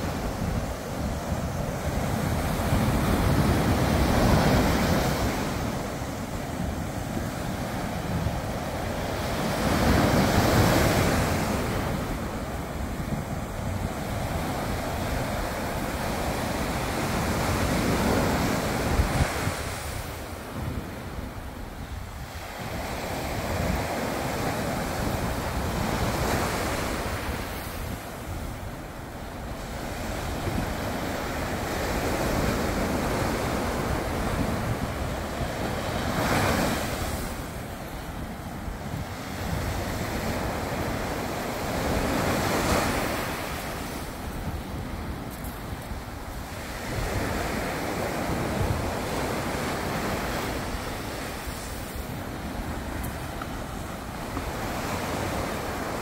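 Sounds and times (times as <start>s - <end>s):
surf breaking on a beach: 0.0s - 56.0s
wind buffeting the microphone: 0.0s - 56.0s.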